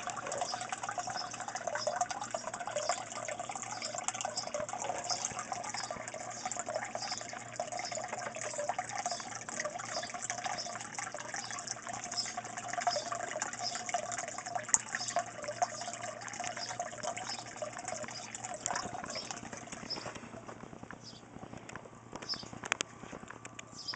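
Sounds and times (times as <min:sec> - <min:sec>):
water trickling into fish tank: 0:00.0 - 0:20.5.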